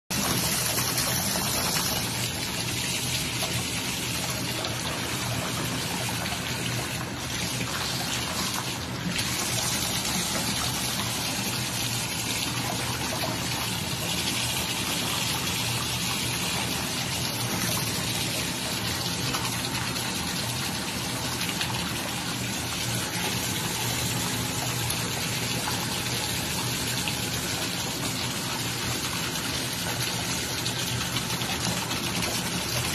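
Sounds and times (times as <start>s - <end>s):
water splashing into bathtub: 0.1s - 32.9s.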